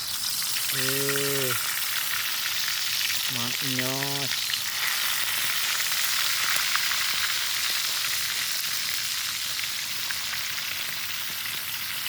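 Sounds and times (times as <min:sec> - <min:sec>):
meat frying in hot oil: 0:00.0 - 0:12.0.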